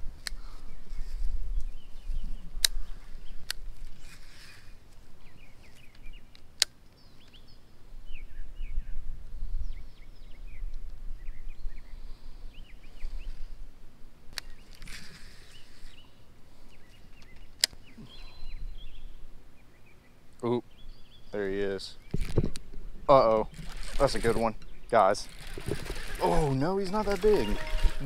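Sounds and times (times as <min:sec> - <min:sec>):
birds chirping: 0:00.0 - 0:13.4, 0:14.4 - 0:22.4, 0:23.1 - 0:28.0.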